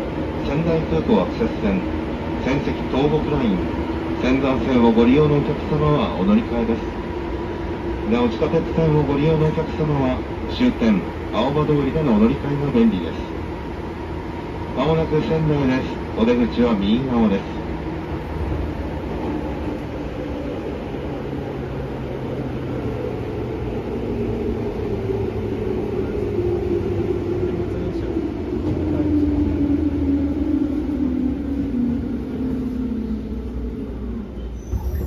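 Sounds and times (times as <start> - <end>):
train car rumbling on track: 0.0 - 35.0.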